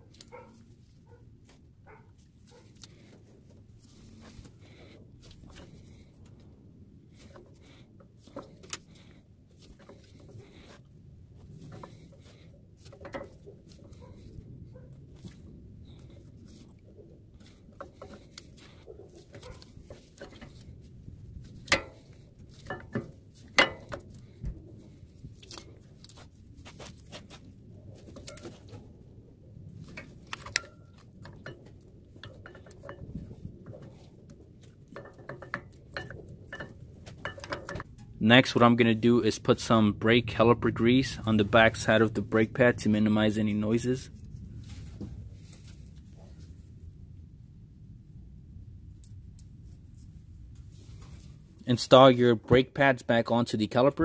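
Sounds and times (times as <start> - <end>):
faint low rumble: 0.0 - 52.8.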